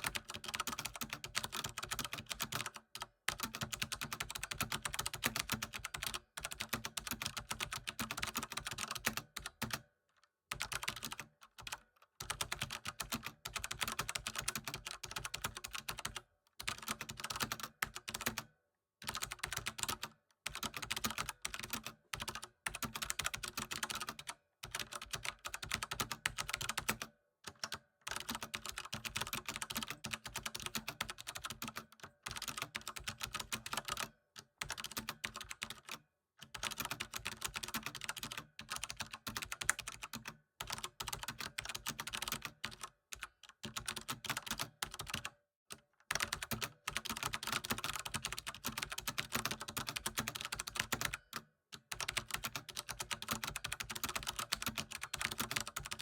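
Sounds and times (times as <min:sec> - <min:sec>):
fast typing on keyboard: 0:00.0 - 0:09.9, 0:10.5 - 0:56.0.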